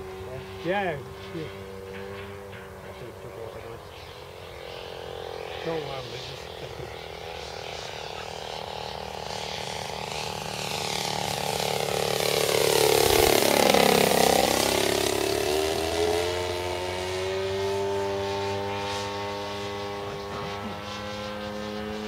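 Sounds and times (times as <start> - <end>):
model plane engine flying past: 0.0 - 22.0.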